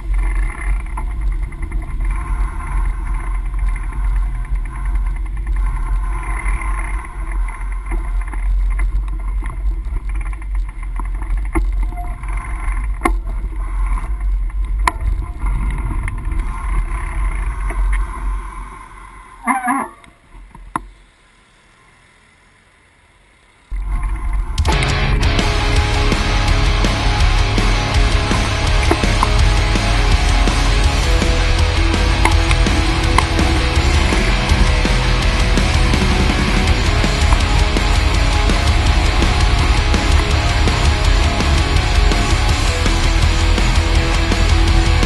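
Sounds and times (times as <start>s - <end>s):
bike clicks and rattles: 0.0s - 18.5s, 23.8s - 45.0s
rolling rumble: 0.0s - 21.0s, 23.7s - 45.0s.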